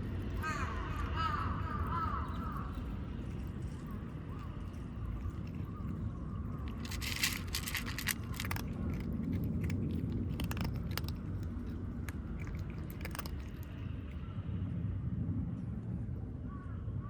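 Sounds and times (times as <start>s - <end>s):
kittens chewing food: 0.0s - 14.3s.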